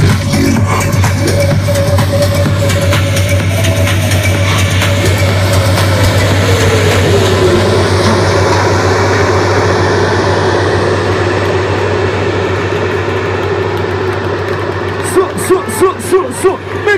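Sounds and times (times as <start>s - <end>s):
loud electronic bass music: 0.0s - 16.9s.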